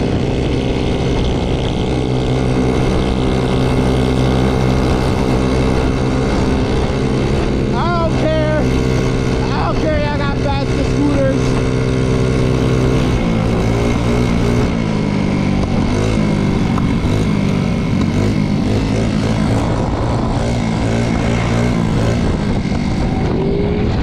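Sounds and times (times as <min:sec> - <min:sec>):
moped engine revving: 0:00.0 - 0:24.0
wind noise on microphone: 0:00.0 - 0:24.0.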